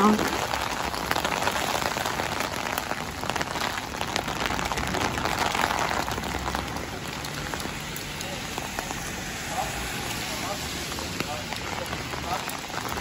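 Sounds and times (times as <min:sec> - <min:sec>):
rain falling on street: 0:00.0 - 0:13.0.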